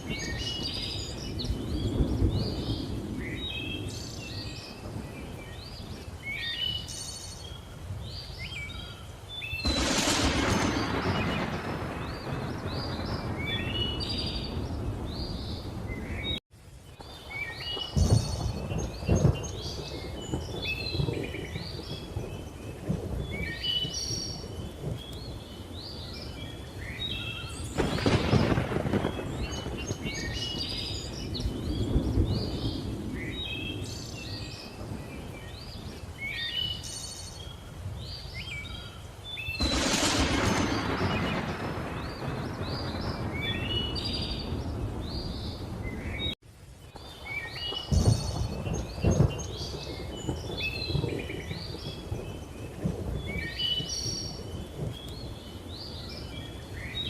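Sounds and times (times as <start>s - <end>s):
rolling thunder: 0.0s - 7.0s, 9.5s - 16.4s, 17.3s - 36.5s, 39.4s - 46.4s, 47.3s - 57.0s
birds chirping: 0.0s - 57.0s
rain: 0.0s - 57.0s.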